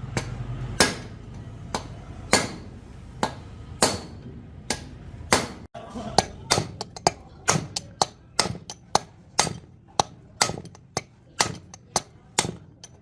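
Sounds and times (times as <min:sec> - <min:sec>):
hammer blows ringing: 0:00.2 - 0:13.0.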